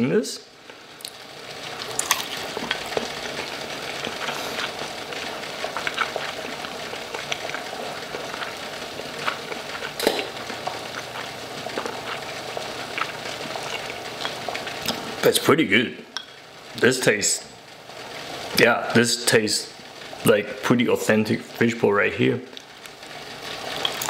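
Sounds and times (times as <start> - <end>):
oil frying with crackles and pops: 0.0 - 24.0.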